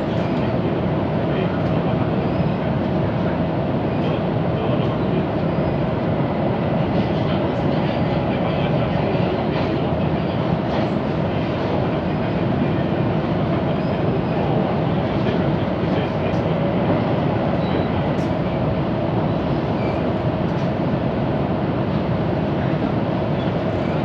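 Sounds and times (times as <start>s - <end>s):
train carriage rumble: 0.0s - 24.0s.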